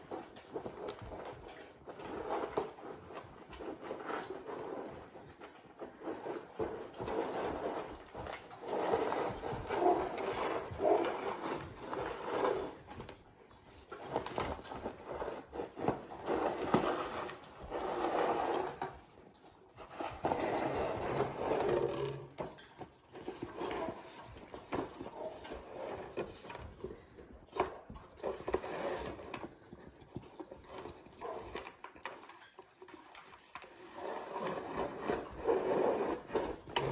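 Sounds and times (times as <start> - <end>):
puppy dragging objects scraping: 0.0 - 36.9.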